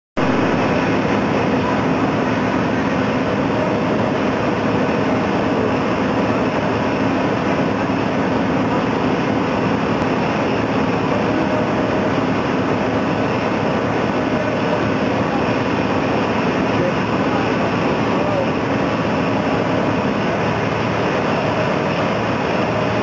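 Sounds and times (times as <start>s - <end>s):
faint machine hum: 0.2s - 23.0s
high-pressure water jet rushing: 0.2s - 23.0s.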